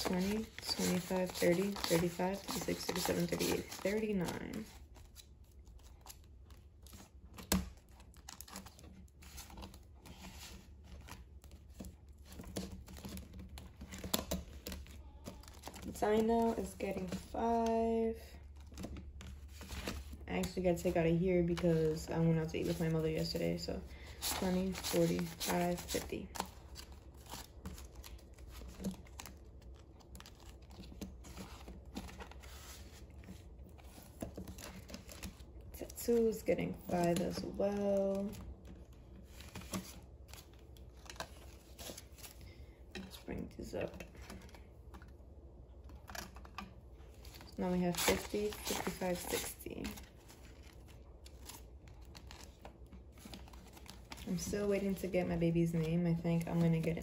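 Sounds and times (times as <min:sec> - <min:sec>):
vinyl envelope crinkling: 0:00.0 - 0:17.8, 0:18.5 - 0:42.5, 0:45.8 - 0:57.0
paper banknotes rustling: 0:00.0 - 0:17.9, 0:18.6 - 0:45.1, 0:46.0 - 0:57.0.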